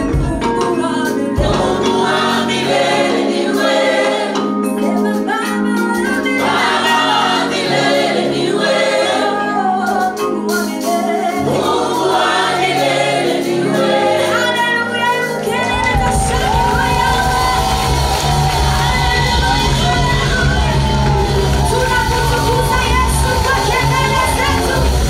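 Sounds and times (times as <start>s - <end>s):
church choir singing: 0.8s - 5.2s, 6.1s - 25.0s.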